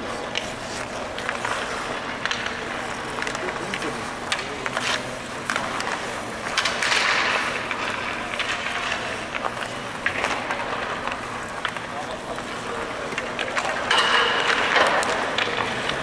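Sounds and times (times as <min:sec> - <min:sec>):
hockey sticks and pucks clicking: 0:00.0 - 0:16.0
skate blades scraping ice: 0:00.0 - 0:16.0.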